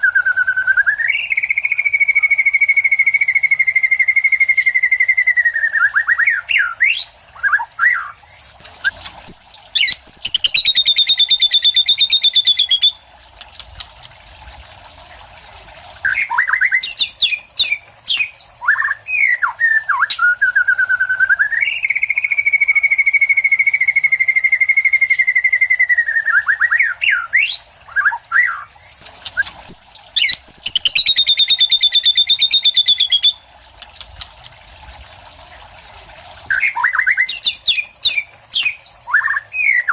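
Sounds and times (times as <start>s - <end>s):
bird singing fast trills: 0.0s - 13.0s, 16.0s - 33.4s, 36.5s - 39.9s
whistled notes and chirps: 0.0s - 13.0s, 16.0s - 33.4s, 36.5s - 39.9s.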